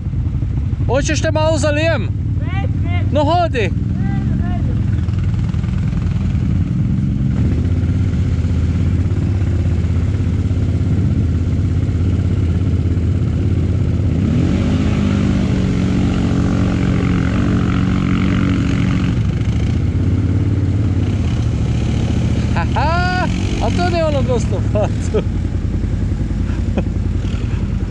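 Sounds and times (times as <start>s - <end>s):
quad bike engine running: 0.0s - 27.9s.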